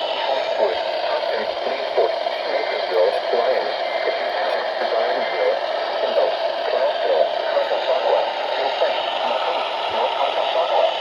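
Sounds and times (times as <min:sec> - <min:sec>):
faint radio announcer voice: 0:00.0 - 0:11.0
radio static hiss: 0:00.0 - 0:11.0.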